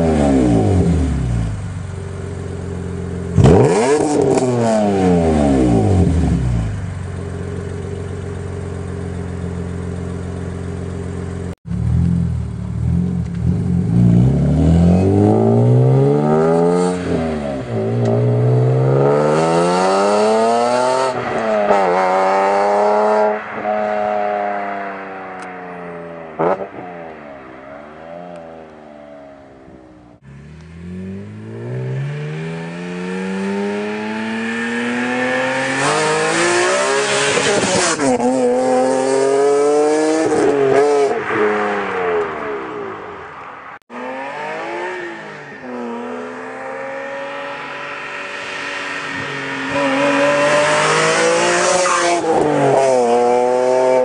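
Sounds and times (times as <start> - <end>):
car engine revving through gears: 0.0 - 1.5, 3.3 - 6.8, 12.8 - 27.2, 27.9 - 43.0, 43.8 - 54.0.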